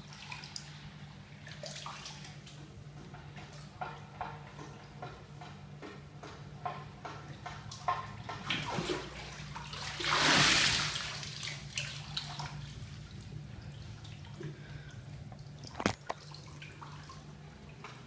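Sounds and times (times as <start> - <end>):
bathwater sloshing and splashing: 0.0 - 18.0
water dripping: 0.0 - 18.0.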